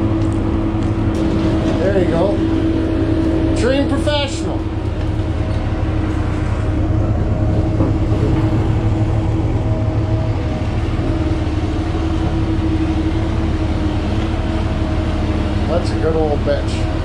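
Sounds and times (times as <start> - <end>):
constant hum: 0.0 - 17.0
pickup truck engine rumbling: 0.0 - 17.0.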